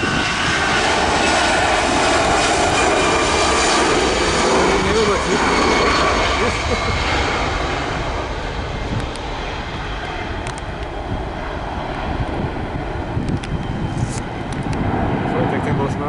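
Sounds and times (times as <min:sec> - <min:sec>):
jet airliner engine roar: 0:00.0 - 0:16.0
wind buffeting microphone: 0:00.0 - 0:16.0.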